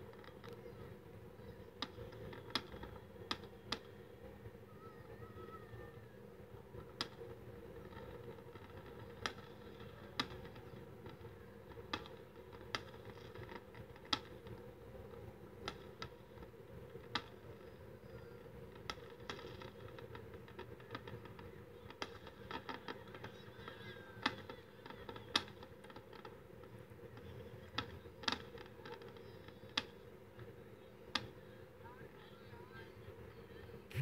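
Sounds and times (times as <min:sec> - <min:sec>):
fireworks cracking: 0:00.0 - 0:34.0.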